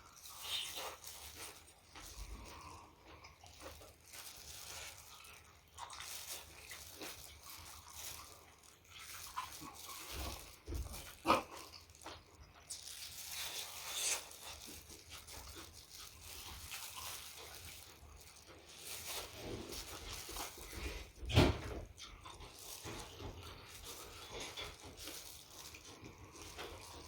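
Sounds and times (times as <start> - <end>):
person chewing with mouth sounds: 0.0 - 27.0.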